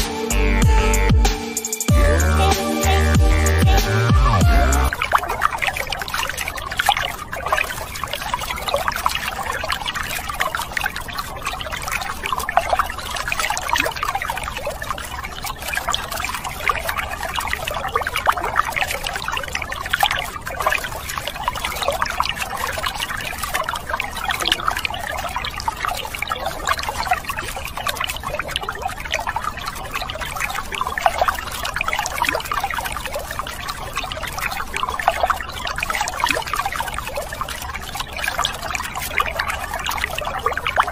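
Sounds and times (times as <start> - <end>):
water pouring onto plastic toys: 4.9 - 40.9.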